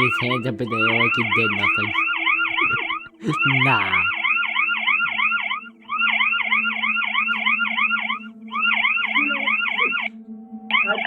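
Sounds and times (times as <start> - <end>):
alarm siren warbling: 0.0 - 11.0.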